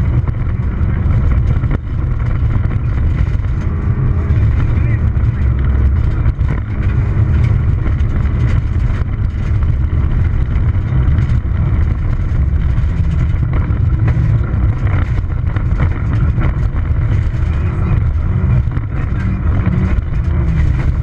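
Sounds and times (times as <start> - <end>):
car engine running hard: 0.0 - 21.0
gravel knocking against car: 0.0 - 21.0
tyres and road noise rumble: 0.0 - 21.0.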